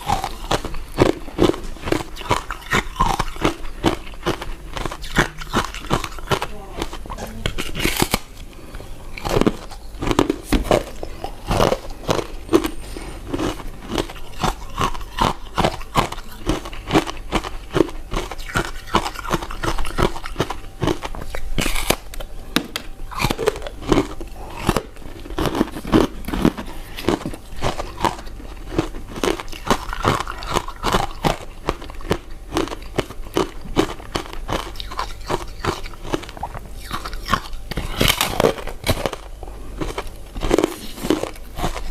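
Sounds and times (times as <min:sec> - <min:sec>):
person chewing sticky food: 0:00.0 - 0:41.9.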